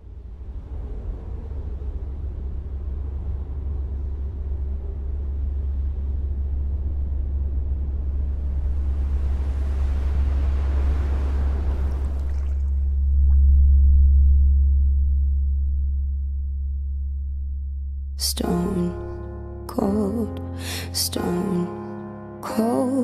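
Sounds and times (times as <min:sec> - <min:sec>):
low rumbling drone with hiss: 0:00.0 - 0:21.8.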